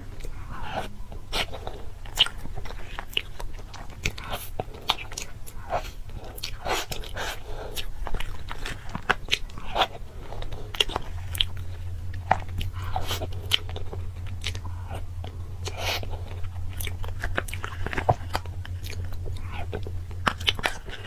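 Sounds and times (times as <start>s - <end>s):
crunchy chewing of food: 0.0s - 21.0s
steady low hum: 0.0s - 21.0s.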